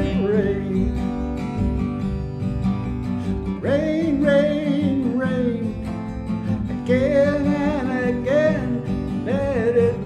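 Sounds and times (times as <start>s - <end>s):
acoustic guitar: 0.0s - 10.0s.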